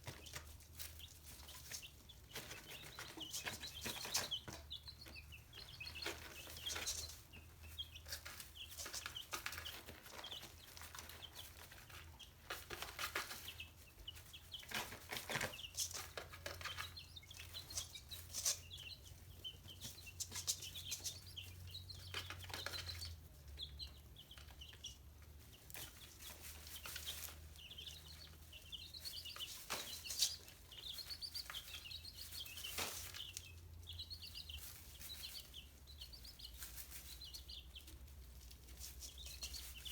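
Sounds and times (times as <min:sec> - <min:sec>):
chickens clucking: 0:00.0 - 0:39.9
high peeping chirps: 0:00.1 - 0:39.9.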